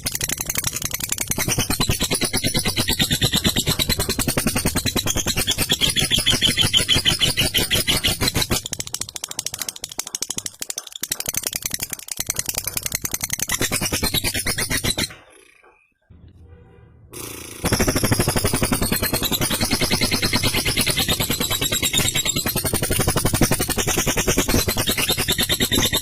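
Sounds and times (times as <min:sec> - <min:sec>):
lovebird rattling chatter: 0:00.0 - 0:16.0, 0:17.2 - 0:26.0.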